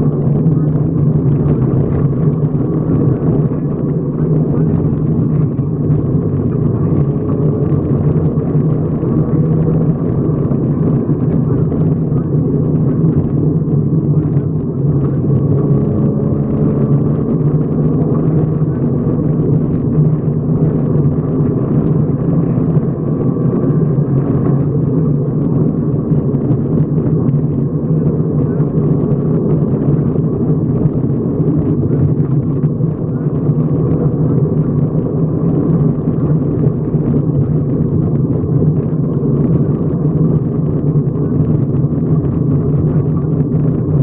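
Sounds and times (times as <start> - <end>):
gravel crackling under tyres: 0.0 - 44.0
rally car engine running hard: 0.0 - 44.0.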